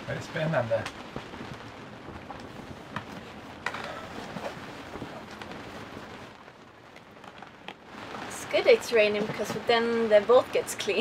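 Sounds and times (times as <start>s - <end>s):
rain on canvas: 0.0s - 11.0s
sharp raindrop hits: 0.0s - 11.0s.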